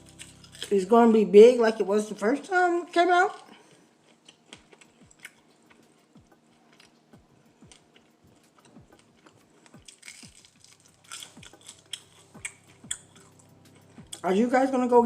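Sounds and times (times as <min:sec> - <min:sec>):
chewing crispy fried chicken: 0:00.0 - 0:00.9, 0:02.0 - 0:14.3.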